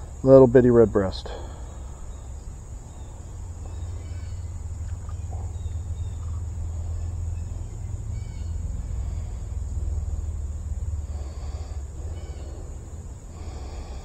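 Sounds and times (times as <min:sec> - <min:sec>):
low rumble on microphone: 0:01.3 - 0:14.0
high-pitched insect drone: 0:01.4 - 0:14.0.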